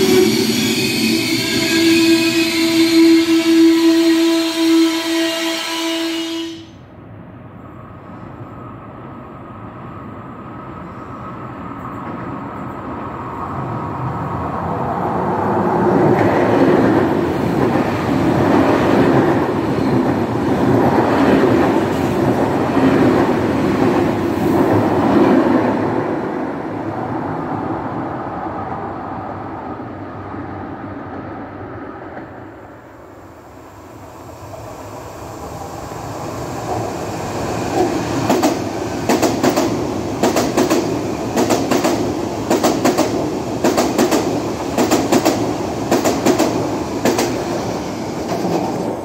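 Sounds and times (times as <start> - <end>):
train passing: 0.0 - 49.0.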